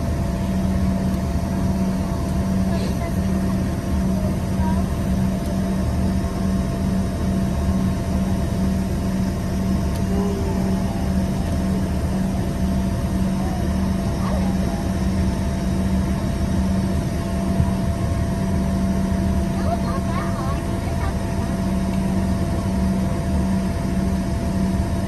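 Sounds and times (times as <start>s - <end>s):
jet engines droning in cabin: 0.0s - 25.0s
low hum: 0.0s - 25.0s.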